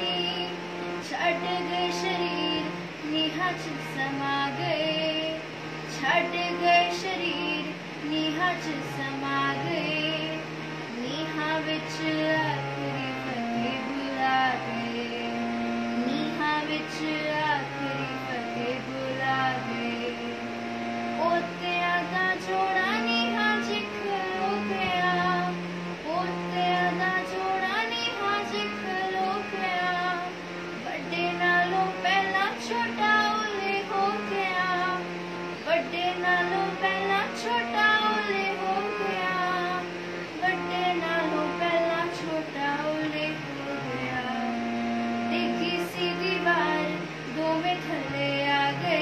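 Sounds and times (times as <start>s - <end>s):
girl singing: 0.0s - 15.4s, 16.0s - 20.6s, 21.2s - 44.6s, 45.3s - 49.0s.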